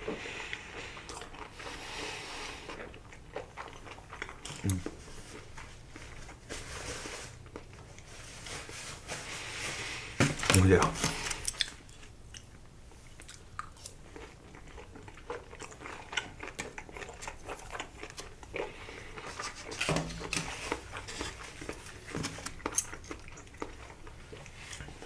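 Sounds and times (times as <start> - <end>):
crunchy chewing: 0.1 - 6.4, 9.4 - 25.0.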